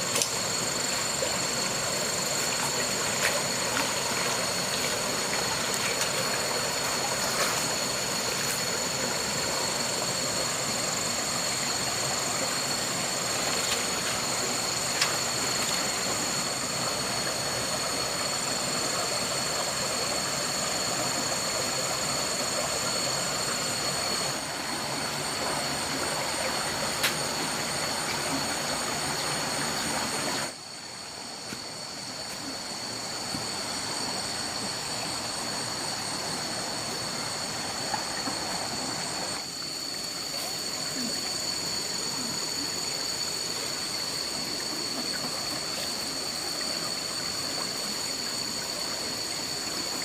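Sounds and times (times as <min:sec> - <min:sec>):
steady outdoor hiss: 0:00.0 - 0:50.0.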